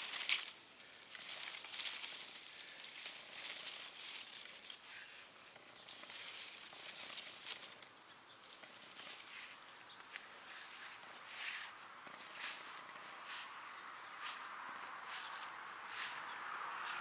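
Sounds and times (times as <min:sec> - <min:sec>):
plants rustling: 0:00.0 - 0:17.0
soft footsteps: 0:01.2 - 0:17.0.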